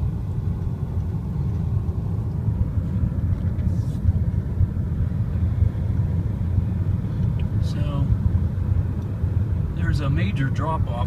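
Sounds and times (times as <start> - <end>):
car interior road rumble: 0.0 - 11.0.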